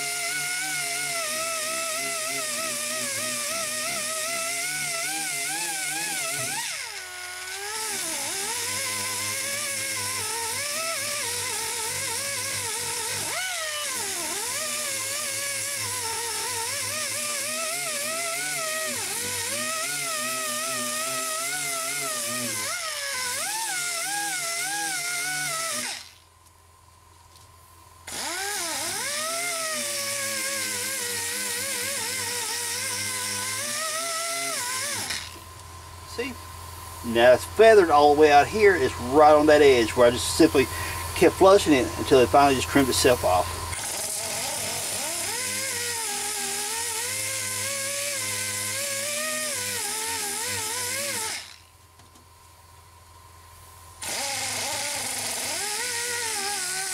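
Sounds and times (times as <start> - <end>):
die grinder sanding: 0.0 - 26.2, 28.1 - 35.4, 37.0 - 51.7, 54.0 - 56.9.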